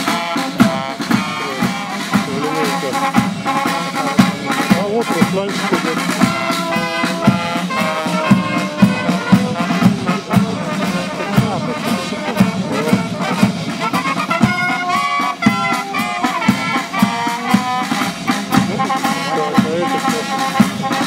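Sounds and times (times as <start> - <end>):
bass drum beat: 0.0 - 21.0
trumpets and trombones playing march: 0.0 - 21.0.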